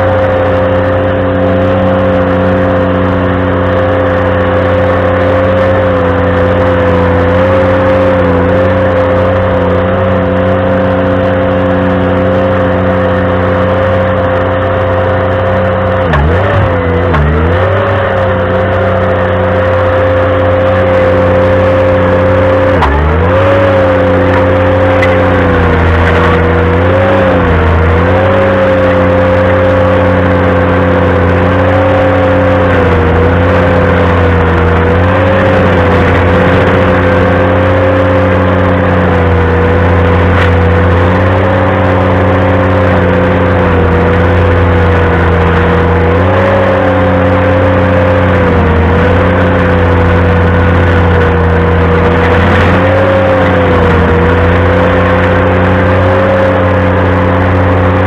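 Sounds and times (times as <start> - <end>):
stump grinder engine with whine: 0.0 - 58.0.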